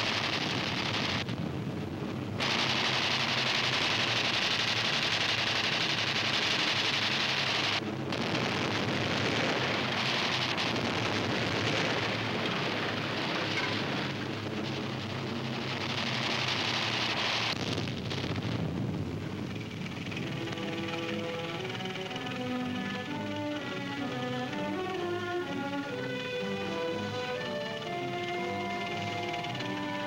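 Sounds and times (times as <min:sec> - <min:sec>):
rapid machine-gun fire: 0:00.0 - 0:01.4, 0:02.4 - 0:18.7, 0:19.4 - 0:25.4, 0:27.0 - 0:30.0
fighter plane engine noise: 0:00.0 - 0:30.0.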